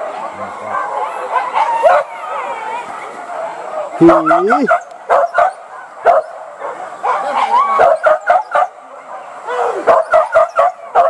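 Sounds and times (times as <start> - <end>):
dogs barking and yelping: 0.0 - 11.0.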